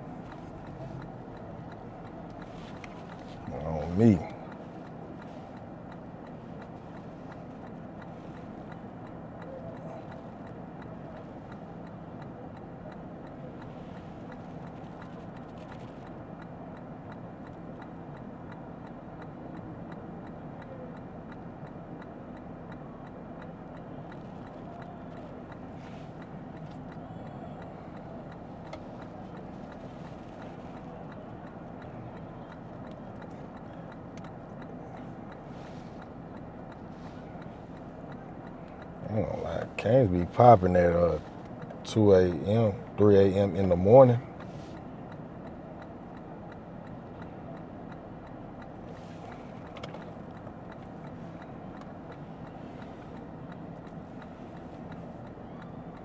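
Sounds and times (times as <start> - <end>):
car engine hum: 0.0 - 56.0
faint ticking: 0.0 - 56.0.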